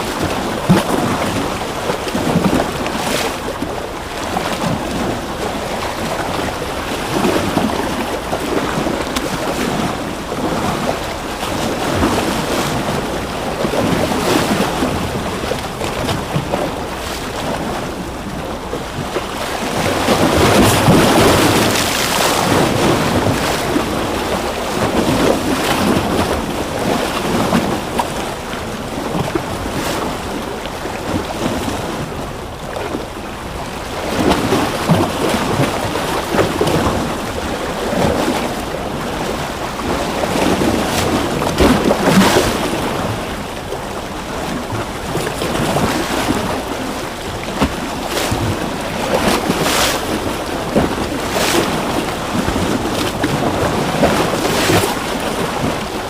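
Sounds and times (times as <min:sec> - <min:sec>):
water splashes: 0:00.0 - 0:56.0
waves breaking: 0:00.0 - 0:56.0.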